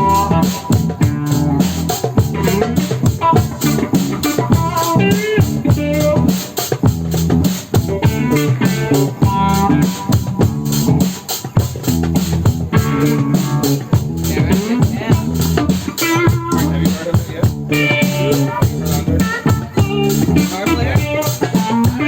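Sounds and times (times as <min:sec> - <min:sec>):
bass guitar: 0:00.0 - 0:22.0
drum kit: 0:00.0 - 0:22.0
guitar: 0:00.0 - 0:22.0.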